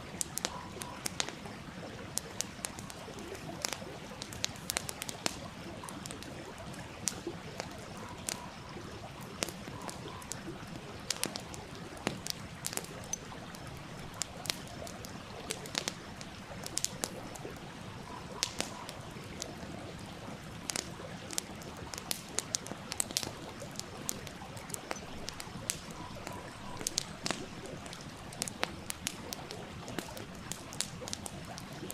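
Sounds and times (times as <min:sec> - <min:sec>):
flowing stream: 0:00.0 - 0:31.9
wood fire crackling and popping: 0:00.0 - 0:31.9.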